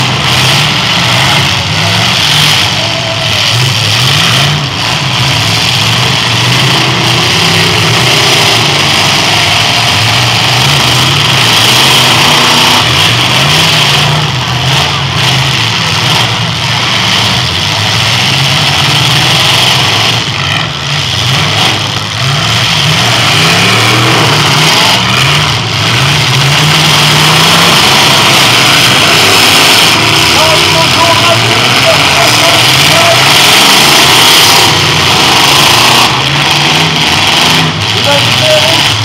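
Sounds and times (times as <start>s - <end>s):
car engines revving hard: 0.0s - 39.0s.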